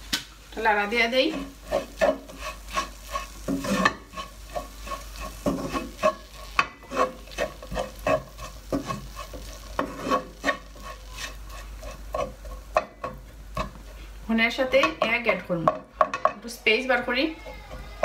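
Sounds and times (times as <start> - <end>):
food sizzling: 0.0 - 18.0
wooden spoon scraping a pan: 0.8 - 18.0.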